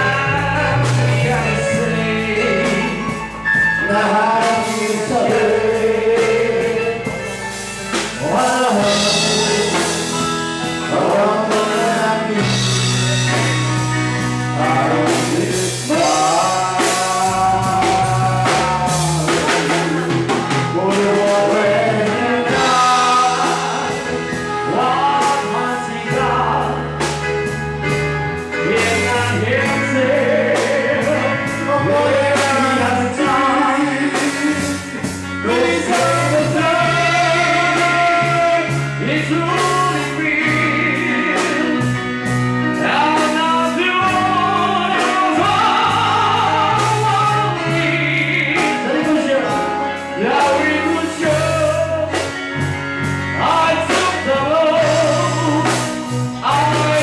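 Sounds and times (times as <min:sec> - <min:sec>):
voices singing into microphones: 0:00.0 - 0:27.3, 0:28.4 - 0:42.0, 0:42.8 - 0:52.4, 0:53.1 - 0:57.0
drum kit beat: 0:00.0 - 0:57.0
electric bass: 0:00.0 - 0:57.0.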